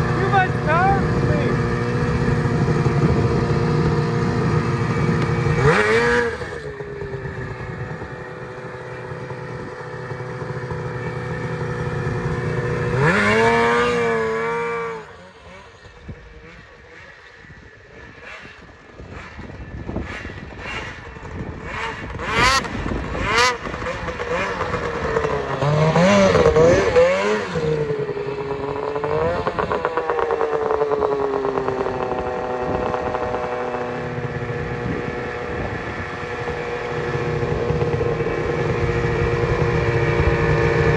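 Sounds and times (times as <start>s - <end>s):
snowmobile engine idling and revving: 0.0s - 40.9s.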